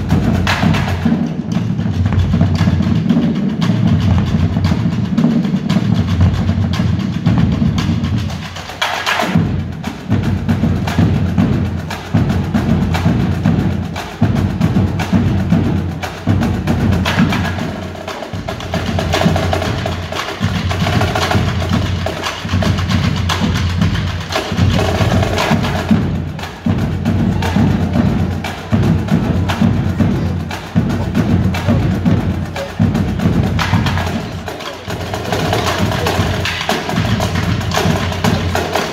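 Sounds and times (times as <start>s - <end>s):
drumline playing: 0.0s - 38.9s.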